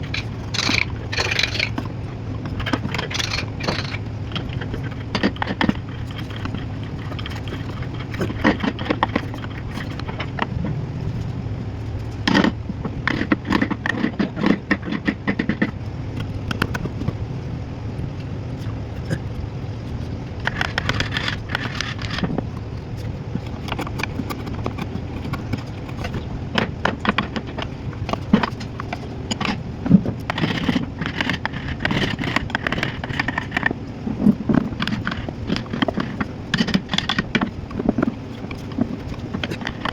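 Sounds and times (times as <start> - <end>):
tool scraping and tapping wood: 0.0 - 17.2, 18.6 - 39.9
steady low hum: 0.0 - 39.9.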